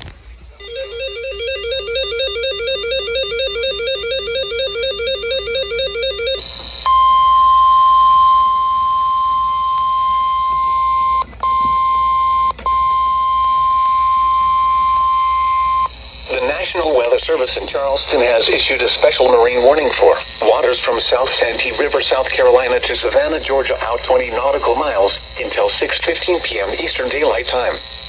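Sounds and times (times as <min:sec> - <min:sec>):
steady warning alarm tone: 0:00.6 - 0:28.0.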